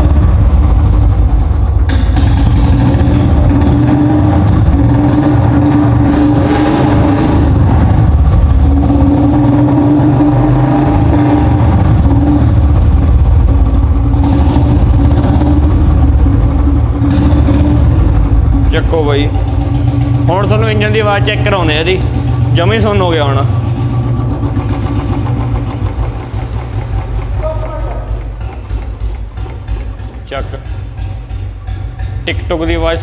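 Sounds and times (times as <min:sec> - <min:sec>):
single-cylinder engine running: 0:00.0 - 0:33.0.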